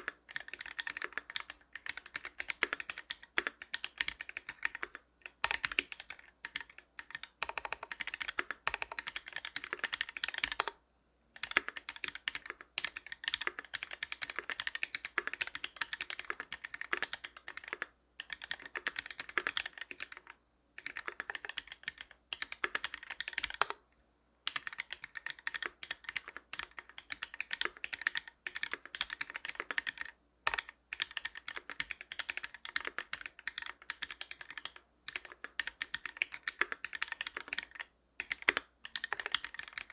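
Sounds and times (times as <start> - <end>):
fast typing on mechanical keyboard: 0.0 - 10.8, 11.4 - 23.8, 24.5 - 39.9.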